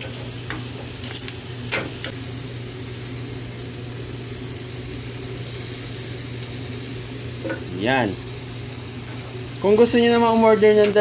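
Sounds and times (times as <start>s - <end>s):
low machine hum: 0.0s - 11.0s
ribs sizzling on a grill: 0.0s - 11.0s.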